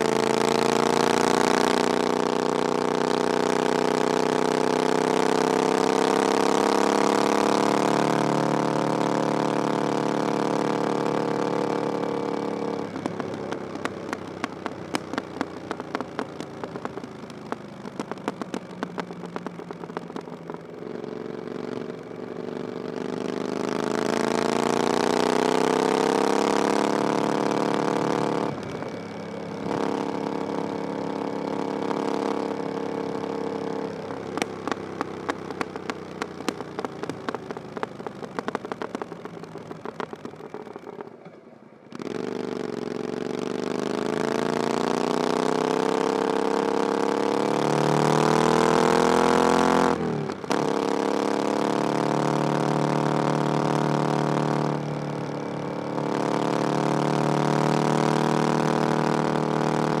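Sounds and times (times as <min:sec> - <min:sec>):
exhaust pops and crackles: 0:00.0 - 0:22.3, 0:23.1 - 1:00.0
motorcycle engine revving: 0:00.0 - 1:00.0.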